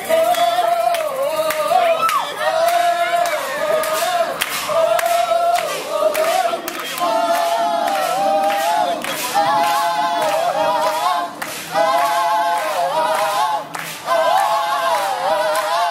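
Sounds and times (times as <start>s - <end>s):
group singing in harmony: 0.0s - 15.9s.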